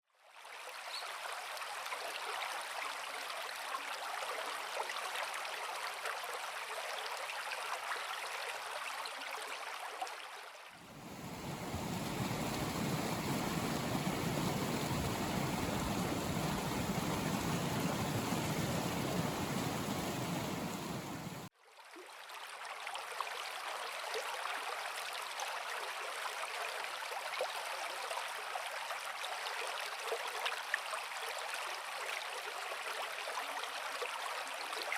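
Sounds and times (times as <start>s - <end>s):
river water flowing: 0.3s - 34.9s.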